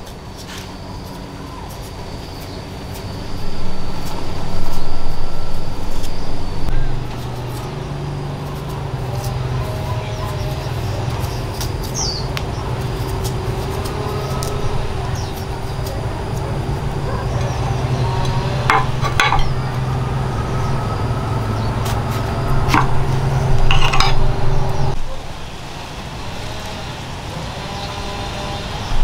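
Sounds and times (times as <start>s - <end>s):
motor engine running: 0.7s - 25.1s.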